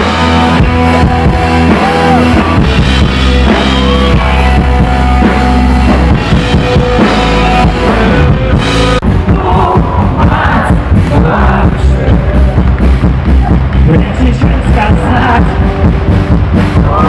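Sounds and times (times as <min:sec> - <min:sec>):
drum kit: 0:00.0 - 0:17.0
electric guitar: 0:00.0 - 0:17.0
rock band playing live: 0:00.0 - 0:17.0.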